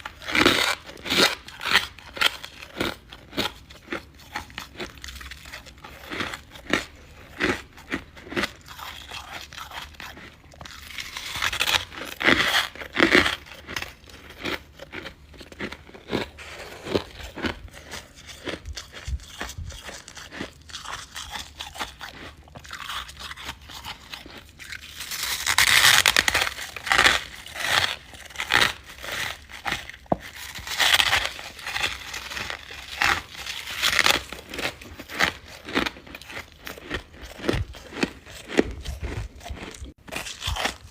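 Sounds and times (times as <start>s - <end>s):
frost being chewed crunching: 0.0s - 40.9s.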